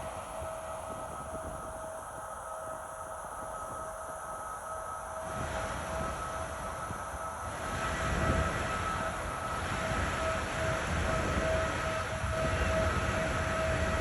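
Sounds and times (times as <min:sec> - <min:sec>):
constant high whine: 0:00.0 - 0:14.0.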